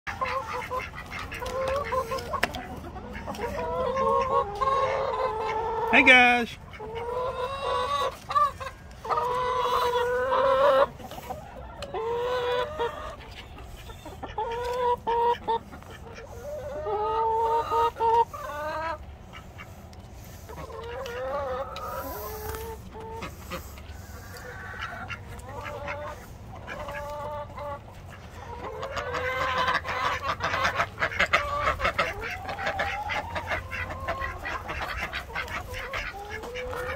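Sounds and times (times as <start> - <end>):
drawn-out hen calls: 0.1 - 36.9
hens clucking: 0.1 - 36.9.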